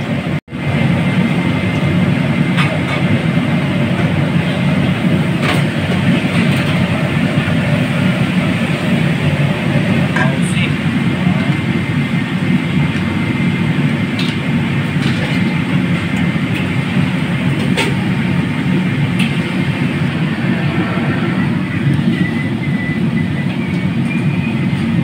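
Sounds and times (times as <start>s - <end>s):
moving vehicle rumble: 0.2s - 25.0s.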